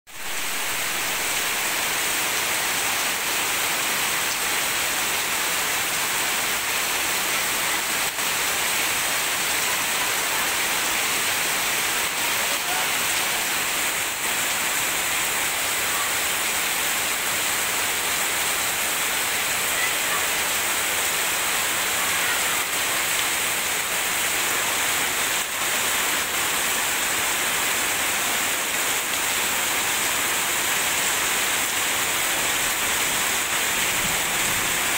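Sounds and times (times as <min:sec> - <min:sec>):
heavy rain on leaves: 0:00.0 - 0:34.9.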